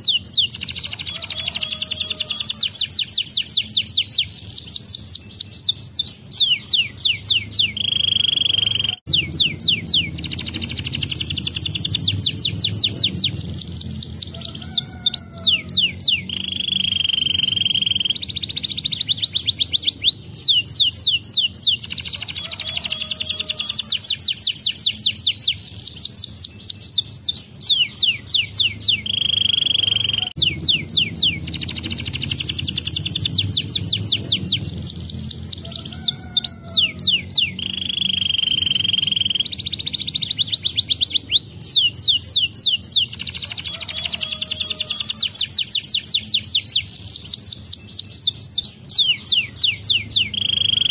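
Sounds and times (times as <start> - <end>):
canary singing trills: 0.0 - 50.9
held whistle: 1.2 - 21.8, 23.6 - 50.9.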